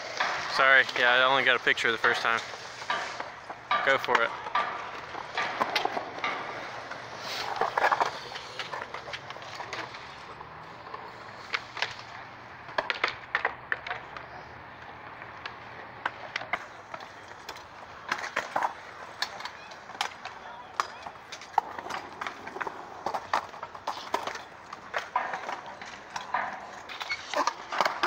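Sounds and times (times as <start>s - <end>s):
skateboard clacks on concrete: 0.0s - 28.0s
skateboard wheels rolling on concrete: 0.0s - 28.0s.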